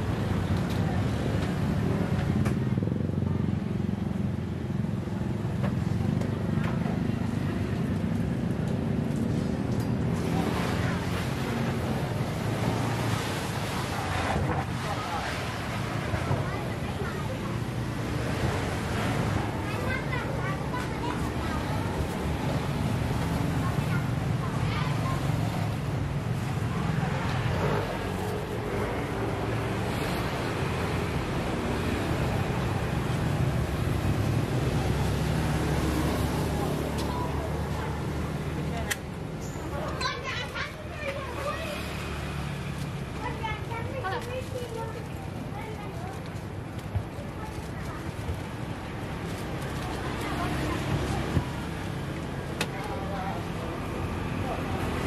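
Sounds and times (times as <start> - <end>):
low rumble of traffic: 0.0 - 55.0
street market ambience: 0.0 - 55.0.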